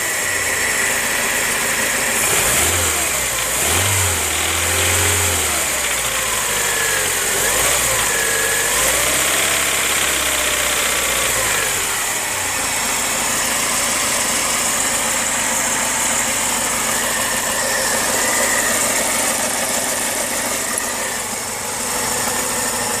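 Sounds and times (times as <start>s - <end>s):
car engine revving and idling: 0.0s - 23.0s
engine knock: 0.0s - 23.0s.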